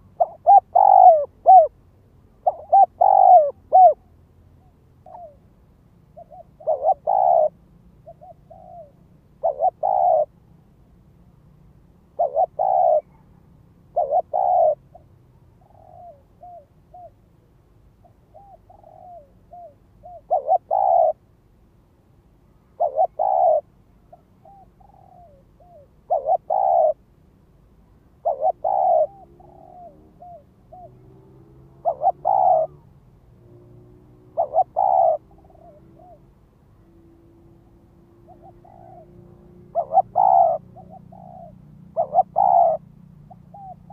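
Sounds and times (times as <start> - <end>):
dove cooing: 0.0 - 5.5, 6.1 - 10.4, 12.1 - 17.2, 18.0 - 21.2, 22.6 - 27.1, 28.2 - 43.9.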